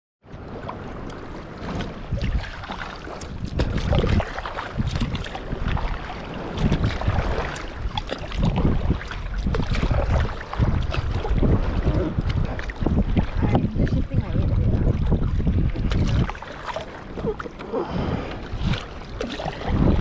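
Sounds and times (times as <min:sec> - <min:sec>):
water lapping against kayak hull: 0:00.2 - 0:20.0
wind buffeting microphone: 0:00.3 - 0:20.0.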